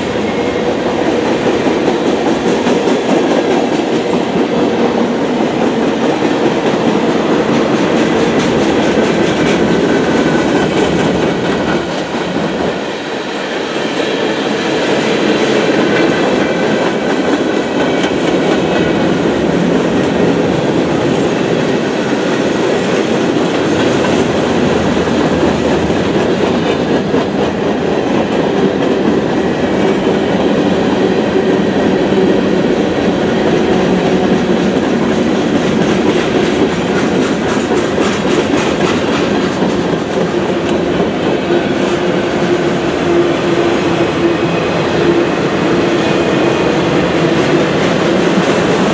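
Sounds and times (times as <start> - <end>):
train wheels clattering on rails: 0.0 - 48.9.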